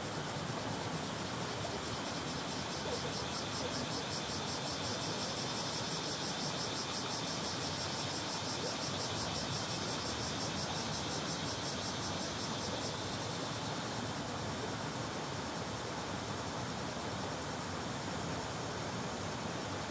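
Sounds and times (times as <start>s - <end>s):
cicadas buzzing: 0.0s - 19.9s.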